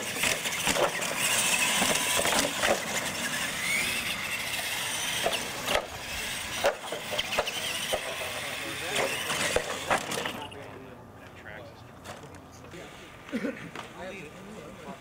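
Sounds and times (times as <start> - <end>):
rc trucks motors and tyres: 0.0 - 15.0.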